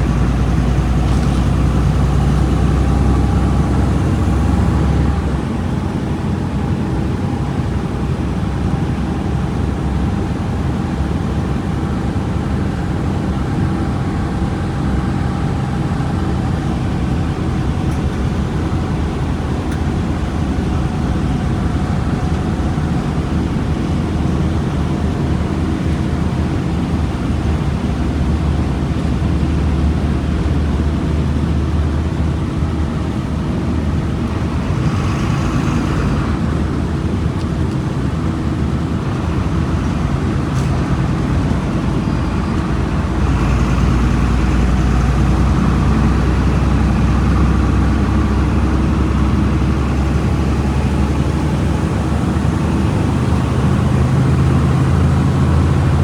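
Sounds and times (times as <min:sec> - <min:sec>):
bus engine rumbling: 0:00.0 - 0:56.0.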